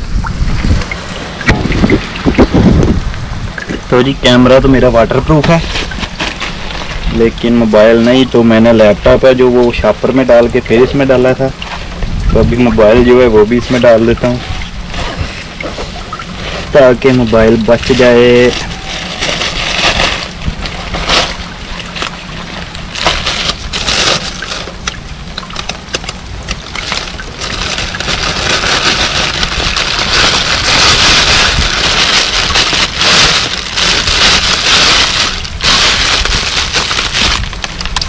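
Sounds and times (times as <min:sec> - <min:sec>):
wind rumble on microphone: 0:00.0 - 0:08.4, 0:11.4 - 0:38.0
rain hiss: 0:00.0 - 0:38.0
plastic bag crinkling: 0:03.6 - 0:38.0.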